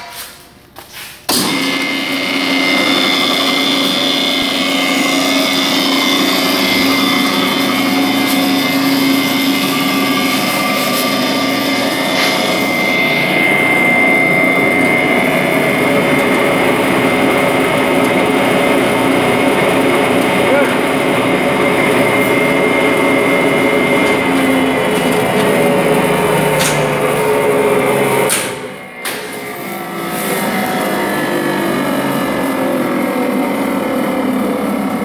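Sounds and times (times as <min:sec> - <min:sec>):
hammer mill running with whine: 0:00.0 - 0:35.0.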